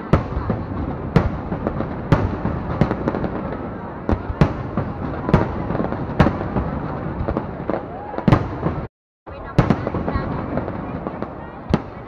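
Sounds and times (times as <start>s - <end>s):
firework bangs: 0.0s - 12.0s
fireworks show noise: 0.0s - 12.0s.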